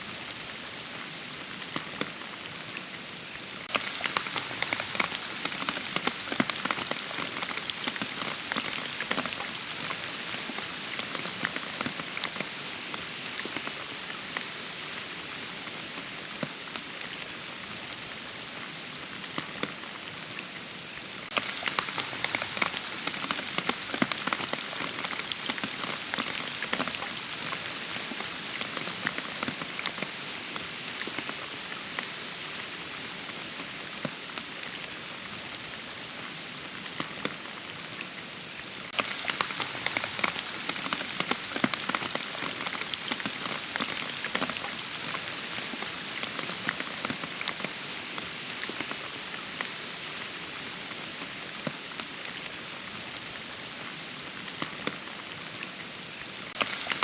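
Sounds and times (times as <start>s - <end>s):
raindrops striking close by: 0.0s - 57.0s
steady rainfall: 0.0s - 57.0s.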